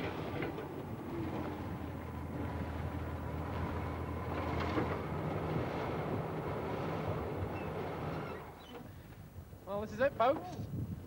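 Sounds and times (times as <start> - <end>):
van engine droning: 0.0 - 9.0.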